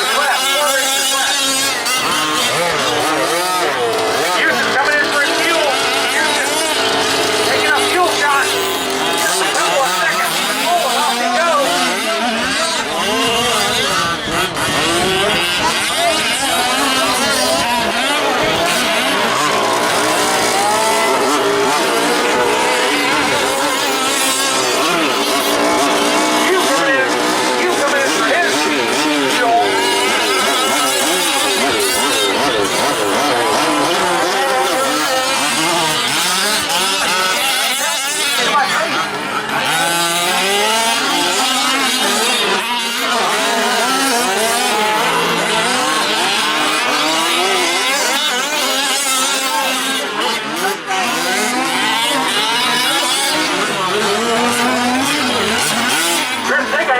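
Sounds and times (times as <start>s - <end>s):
small two-stroke engines revving: 0.0s - 56.9s.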